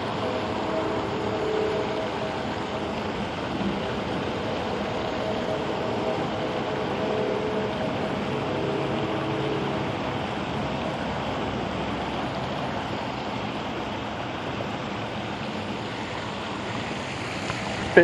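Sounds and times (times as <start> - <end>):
faint hum: 0.0 - 18.0
water rushing over spillway: 0.0 - 18.0.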